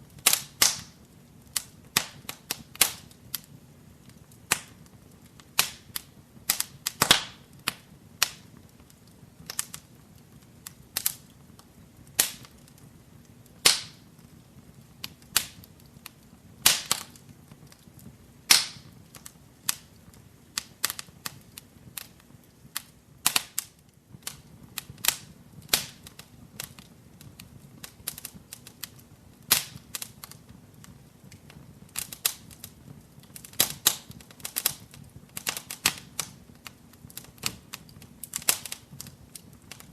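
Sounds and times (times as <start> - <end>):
low hiss of burning: 0.0 - 39.9
wood fire crackling and popping: 0.0 - 39.9.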